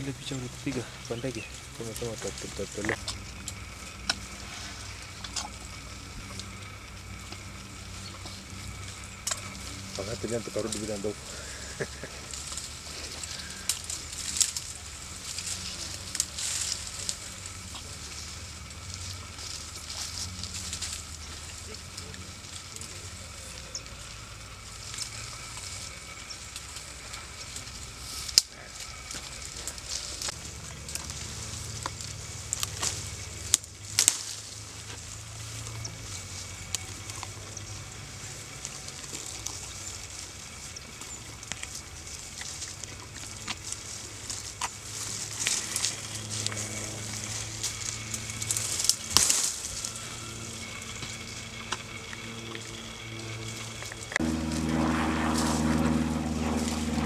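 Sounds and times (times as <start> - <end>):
leaves rustling: 0.0 - 57.0
twigs crackling and snapping: 0.0 - 57.0.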